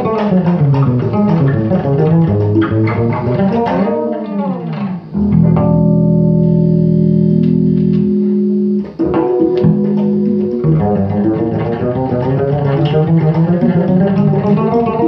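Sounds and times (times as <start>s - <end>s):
electric bass guitar solo: 0.0s - 15.0s.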